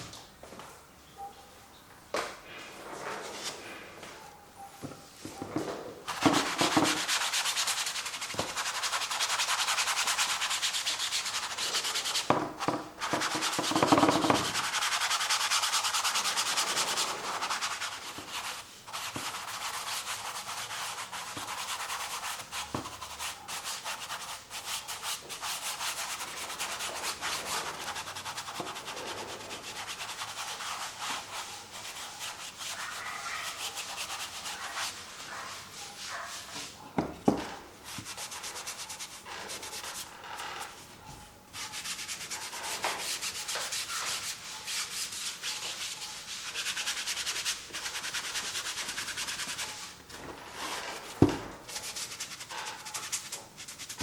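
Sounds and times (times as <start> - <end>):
paint brush scrubbing canvas: 6.1 - 36.8, 37.8 - 40.6, 41.6 - 49.9, 50.5 - 54.0.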